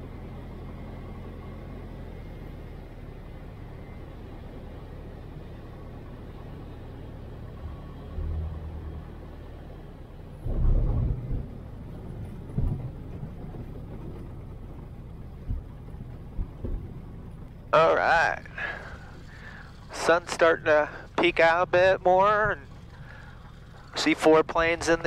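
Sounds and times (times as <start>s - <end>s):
plane engine idling: 0.0s - 25.0s.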